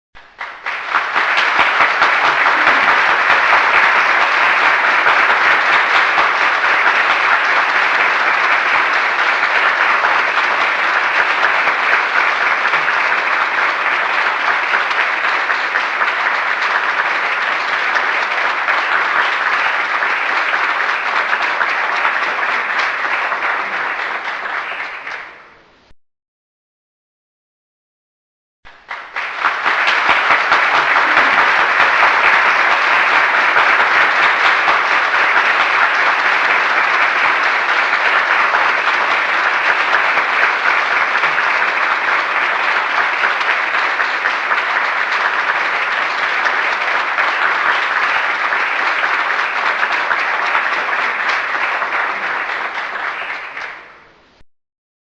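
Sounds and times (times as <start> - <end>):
audience applause: 0.2 - 25.5, 28.7 - 54.0.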